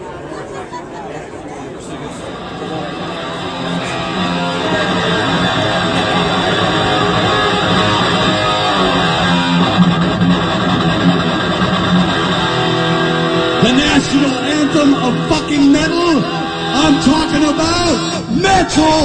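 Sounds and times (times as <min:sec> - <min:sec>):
heavy metal music: 0:02.3 - 0:19.0.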